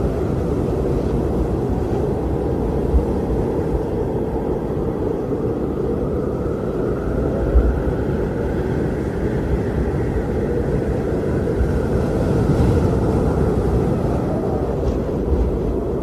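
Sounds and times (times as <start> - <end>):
strong wind roaring: 0.0 - 16.0.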